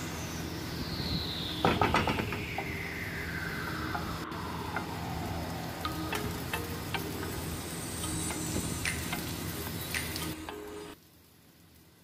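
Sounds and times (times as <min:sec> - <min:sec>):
chili flakes sizzling in oil: 0:00.0 - 0:12.0
tone sliding downward: 0:01.2 - 0:11.0.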